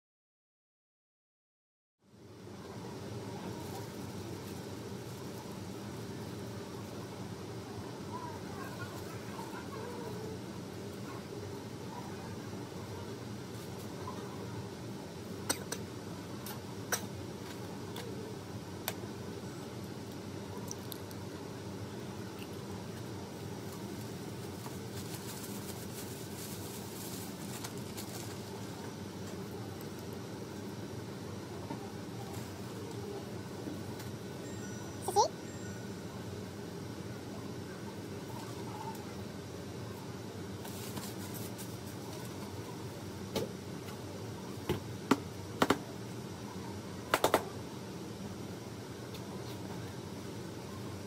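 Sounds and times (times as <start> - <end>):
low background hum with hiss: 2.0 - 51.0.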